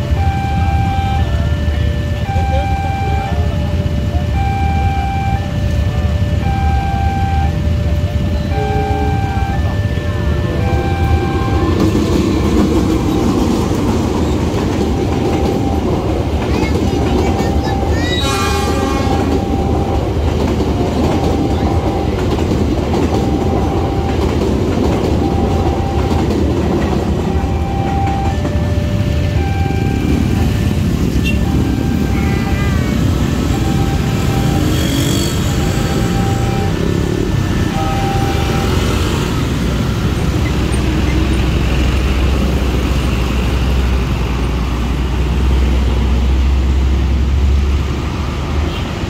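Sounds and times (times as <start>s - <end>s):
crossing warning signal tones: 0.0s - 43.5s
train carriages running past: 0.0s - 49.0s
truck engine droning: 0.0s - 49.0s.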